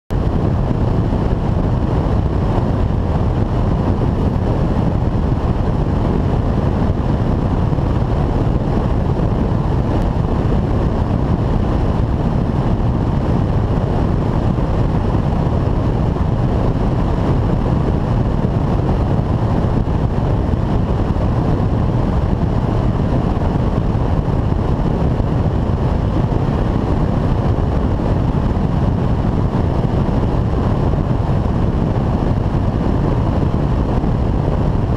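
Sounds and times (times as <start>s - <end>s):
aircraft engine and propeller drone: 0.1s - 34.9s
wind buffeting microphone: 0.1s - 34.9s.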